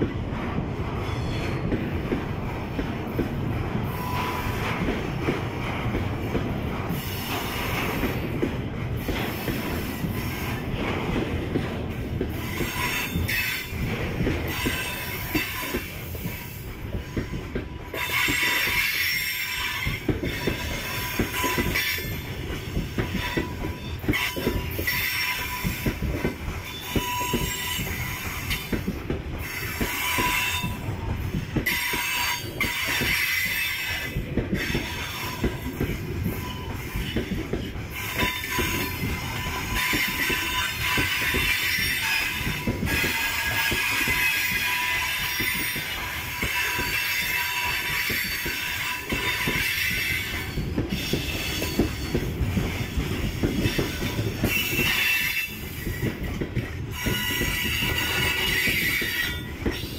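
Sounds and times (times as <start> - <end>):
freight wagons rumbling on rails: 0.0 - 59.9.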